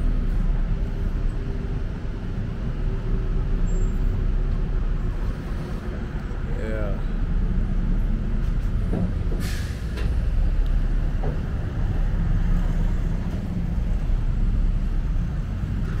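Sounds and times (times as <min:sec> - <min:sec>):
heavy road traffic rumble: 0:00.0 - 0:16.0.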